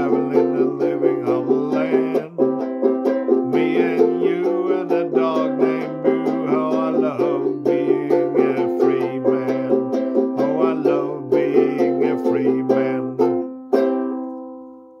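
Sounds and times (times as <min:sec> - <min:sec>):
strummed banjo: 0:00.0 - 0:15.0.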